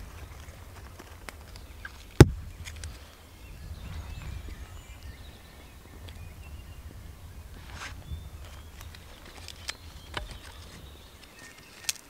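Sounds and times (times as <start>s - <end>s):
fire crackling: 0.0s - 12.0s.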